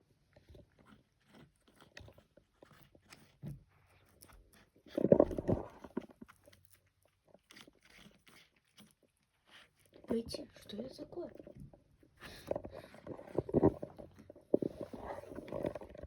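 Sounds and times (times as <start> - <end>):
crunching chewing-like clicks: 0.2 - 10.2, 11.3 - 16.0.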